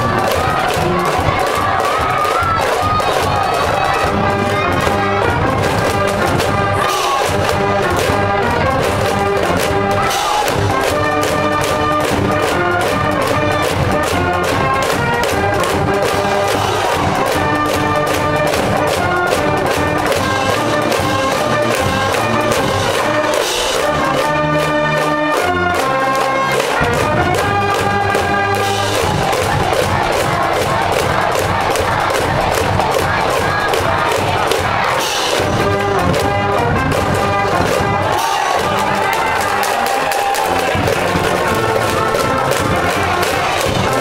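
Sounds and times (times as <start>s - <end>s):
brass band playing: 0.0s - 44.0s
steady drum beat: 0.0s - 44.0s.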